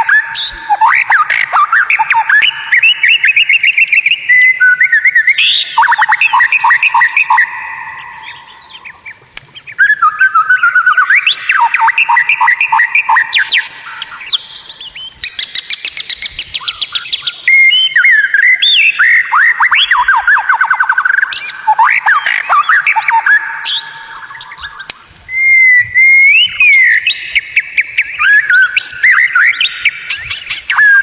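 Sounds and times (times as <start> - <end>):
bird singing with trills: 0.0 - 31.0.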